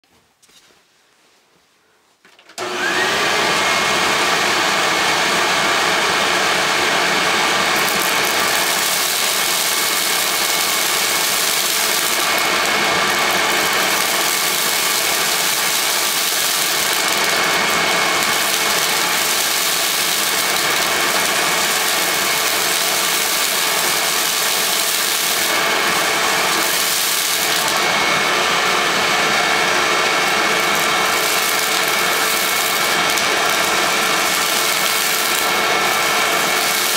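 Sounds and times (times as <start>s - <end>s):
vacuum cleaner motor whining: 2.4s - 36.9s.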